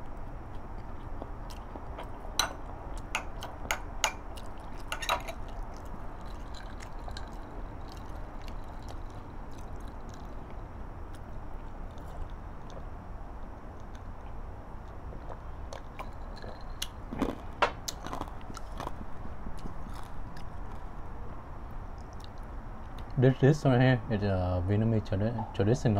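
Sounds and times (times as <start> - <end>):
person chewing: 0.0 - 12.9, 13.8 - 20.9, 22.0 - 23.2.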